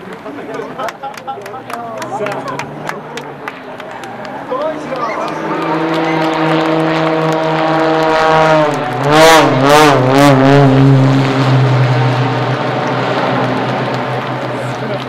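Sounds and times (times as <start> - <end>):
propeller plane engine: 2.4 - 15.0.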